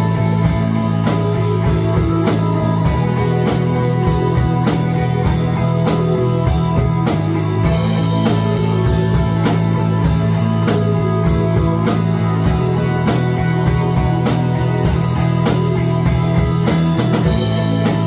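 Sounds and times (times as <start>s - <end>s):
drum kit steady beat: 0.0s - 18.0s
electric guitar: 0.0s - 18.0s
rock band playing live: 0.0s - 18.0s
sustained bass line: 0.0s - 18.0s.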